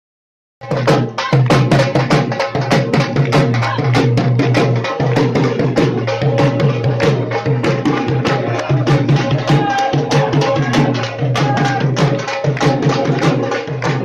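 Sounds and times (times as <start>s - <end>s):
folk music with fast drumming: 0.6s - 14.0s.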